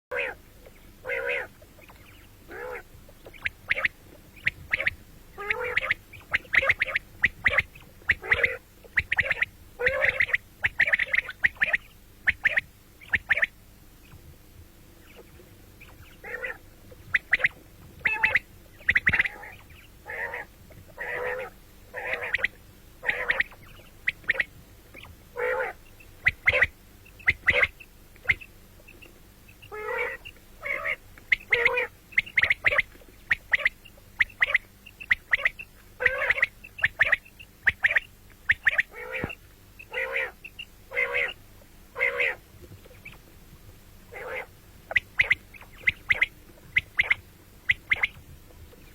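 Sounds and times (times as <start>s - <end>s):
quail calling: 0.1s - 14.2s, 15.0s - 43.3s, 44.1s - 48.2s.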